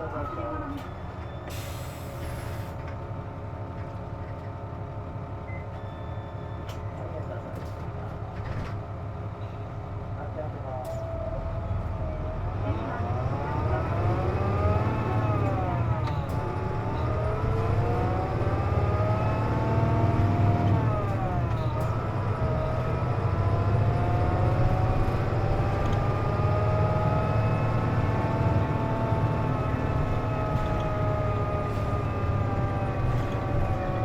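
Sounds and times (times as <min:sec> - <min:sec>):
bus engine rumble: 0:00.0 - 0:34.0.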